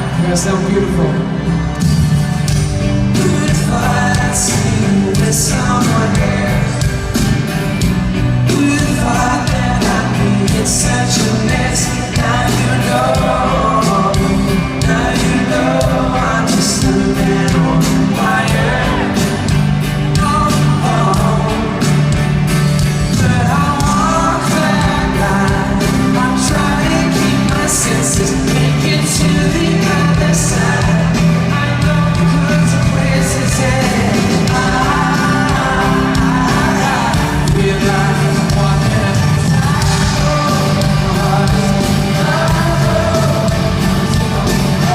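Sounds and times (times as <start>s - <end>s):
pop-rock band playing live: 0.0s - 44.9s
man singing: 2.8s - 44.9s.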